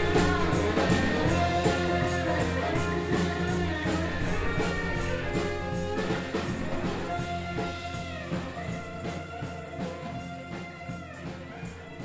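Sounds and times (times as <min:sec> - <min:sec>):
guitar-led instrumental music: 0:00.0 - 0:12.0.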